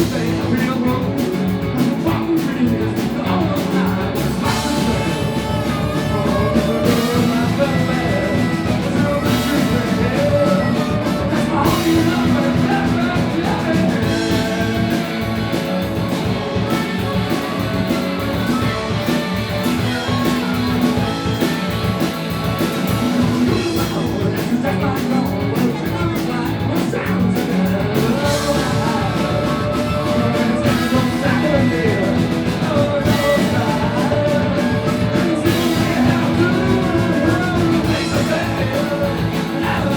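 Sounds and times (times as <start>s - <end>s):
drum kit: 0.0s - 39.9s
person singing: 0.0s - 39.9s
rock band playing live: 0.0s - 39.9s.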